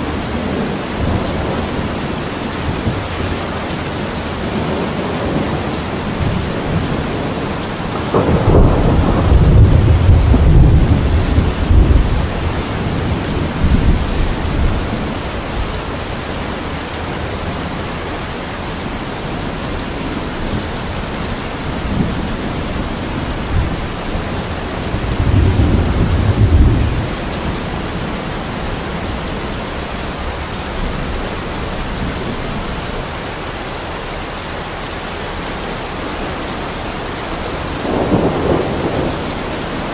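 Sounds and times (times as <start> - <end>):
thunder rumbling: 0.0 - 33.5, 36.1 - 39.9
heavy rain falling: 0.0 - 39.9.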